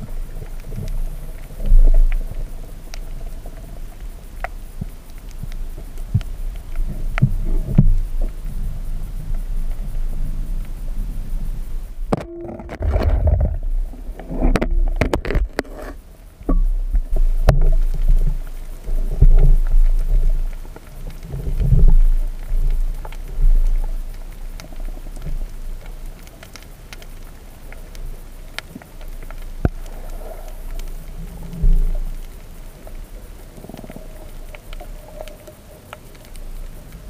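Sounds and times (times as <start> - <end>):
muffled underwater rumbling: 0.0 - 37.0.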